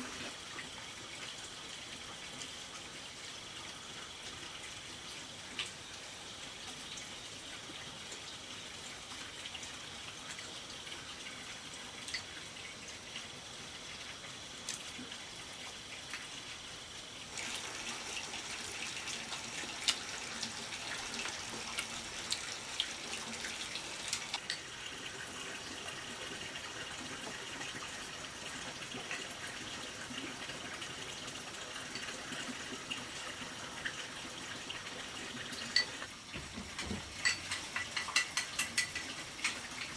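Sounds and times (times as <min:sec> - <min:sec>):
running water with splashes: 0:00.0 - 0:39.9.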